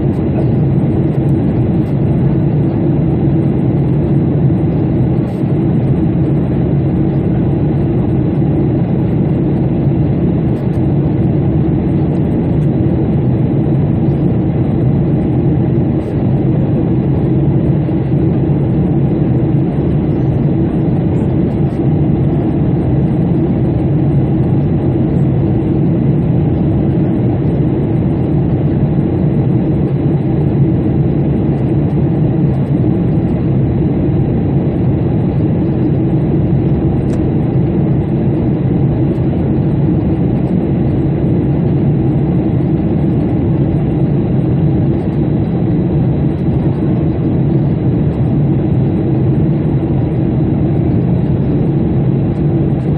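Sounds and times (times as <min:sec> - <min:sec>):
airplane drone in flight: 0:00.0 - 0:52.9.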